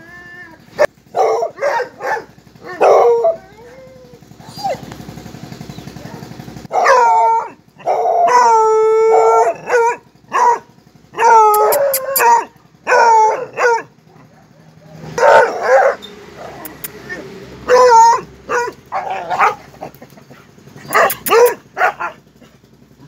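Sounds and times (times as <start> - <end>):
hounds baying howls: 0.0 - 5.0, 6.7 - 20.1, 20.8 - 22.2
hounds barking: 0.7 - 3.5, 6.7 - 22.6.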